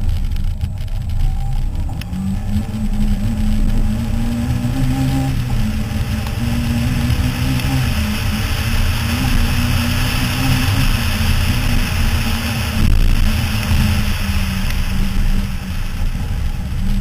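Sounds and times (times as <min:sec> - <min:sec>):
rally car engine running hard: 0:00.0 - 0:17.0
tyre and wind noise: 0:00.0 - 0:17.0.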